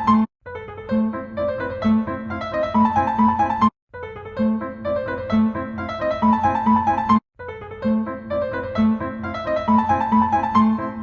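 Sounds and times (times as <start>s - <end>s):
piano-like keyboard melody: 0.0s - 11.0s.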